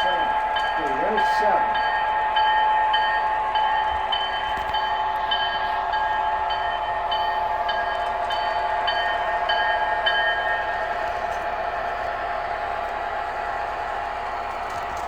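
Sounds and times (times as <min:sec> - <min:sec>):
model train humming: 0:00.0 - 0:15.0.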